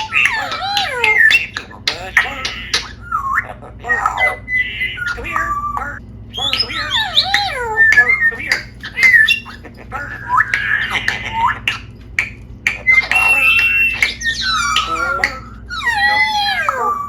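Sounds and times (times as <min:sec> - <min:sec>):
parrot whistling and squawking: 0:00.0 - 0:17.0.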